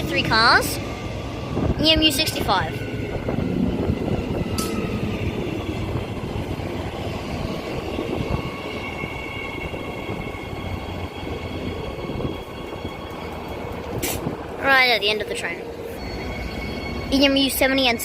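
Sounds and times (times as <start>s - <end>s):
electric train whine: 0.0s - 18.0s
low train rumble: 0.0s - 18.0s.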